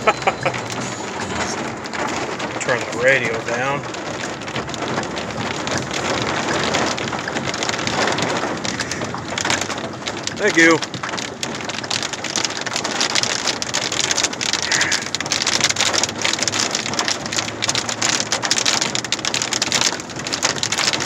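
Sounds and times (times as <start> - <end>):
heavy rain on a vehicle roof: 0.0 - 21.0.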